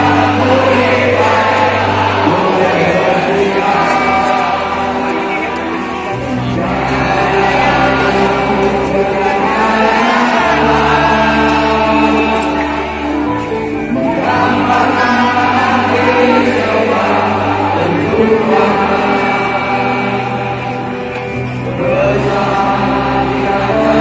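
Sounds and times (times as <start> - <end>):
music with held bass chords: 0.0 - 24.0
stadium crowd singing: 0.0 - 24.0.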